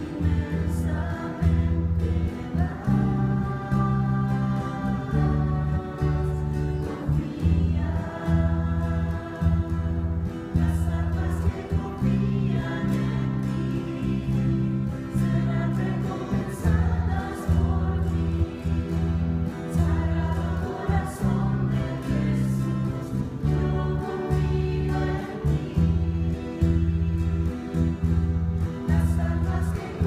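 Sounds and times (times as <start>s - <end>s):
acoustic guitar: 0.0s - 30.0s
choir singing: 0.0s - 30.0s
electric bass low notes: 0.0s - 30.0s
electric guitar: 0.0s - 30.0s.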